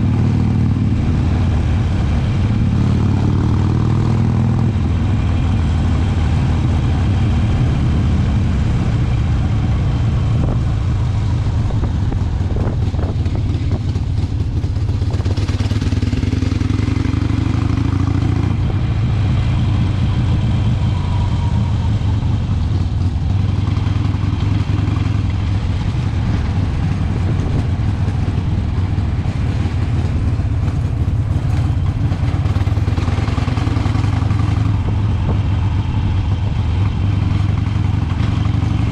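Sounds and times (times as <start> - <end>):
motorcycle engine rumbling: 0.0 - 38.9
road noise: 0.0 - 38.9.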